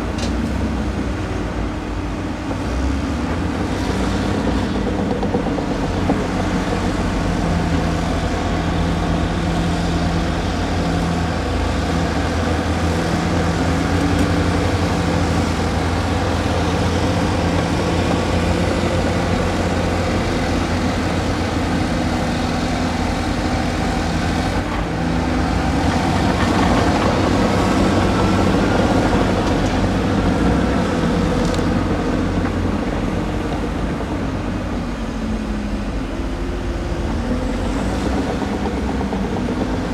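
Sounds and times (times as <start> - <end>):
excavator diesel engine drone: 0.0 - 39.9.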